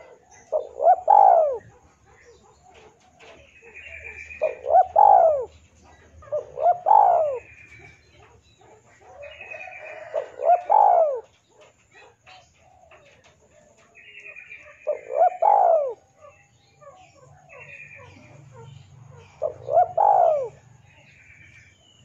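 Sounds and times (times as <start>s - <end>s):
bird chirping: 0.0s - 22.0s
dove cooing: 0.0s - 22.0s.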